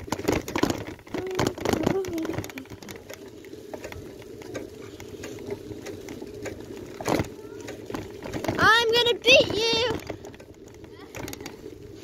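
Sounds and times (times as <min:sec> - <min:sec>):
bicycle rattling over bumps: 0:00.0 - 0:12.0.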